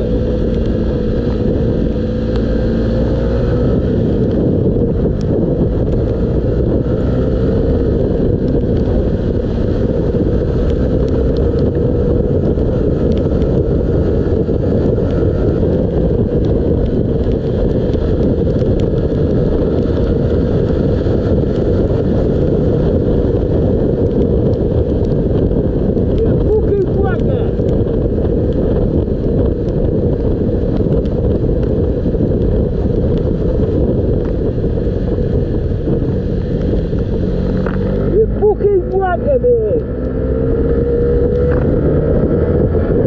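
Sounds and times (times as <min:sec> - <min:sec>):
motorcycle engine running: 0:00.0 - 0:43.0
wind rushing over microphone: 0:00.0 - 0:43.0.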